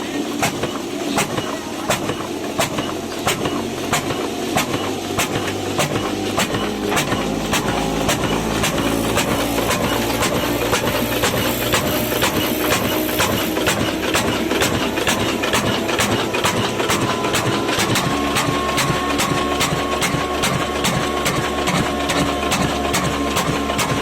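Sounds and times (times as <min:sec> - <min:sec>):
stationary diesel engine thumping: 0:00.0 - 0:24.0.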